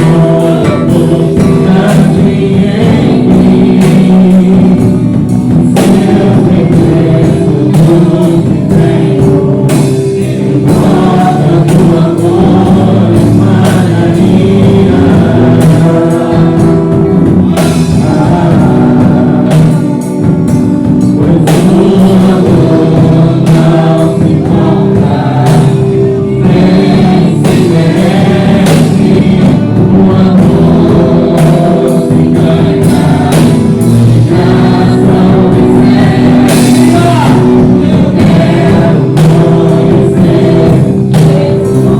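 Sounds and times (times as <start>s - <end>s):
band playing: 0.0s - 41.9s
group singing worship song: 0.0s - 41.9s.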